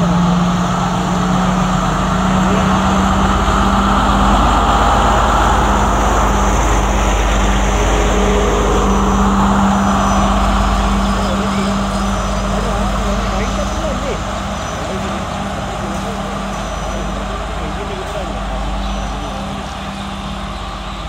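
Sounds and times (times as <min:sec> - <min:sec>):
diesel train engine hum: 0:00.0 - 0:21.0
train wheels rumbling on rail: 0:00.0 - 0:21.0.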